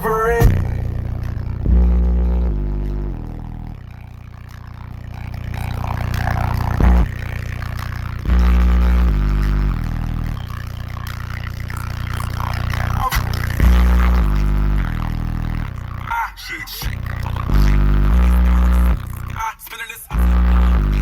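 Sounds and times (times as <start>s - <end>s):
hard bass hit: 0.0s - 19.5s, 20.1s - 21.0s
low bass notes from subwoofers: 0.0s - 21.0s.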